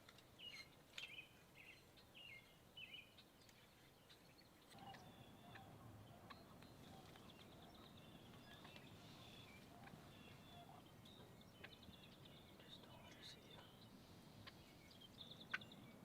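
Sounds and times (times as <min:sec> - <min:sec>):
faint bird chirps: 0:00.4 - 0:16.0.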